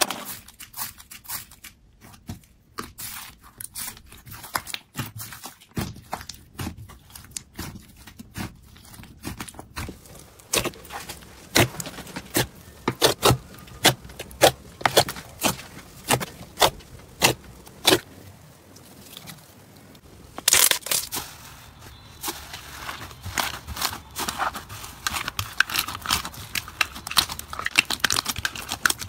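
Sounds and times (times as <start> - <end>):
slime crackling: 0.1 - 29.0
slime squishing with wet pops: 0.2 - 18.1, 22.2 - 29.0.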